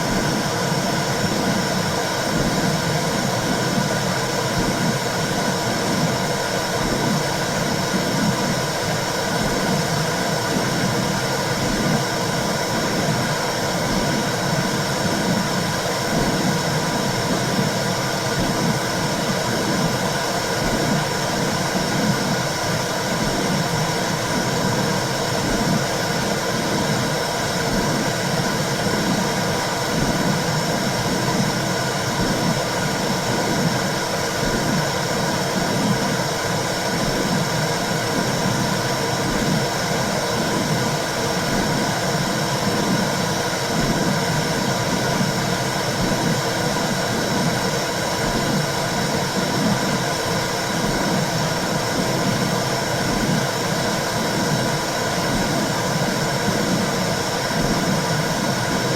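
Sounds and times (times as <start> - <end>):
low rhythmic heartbeat pulse: 0.0 - 58.9.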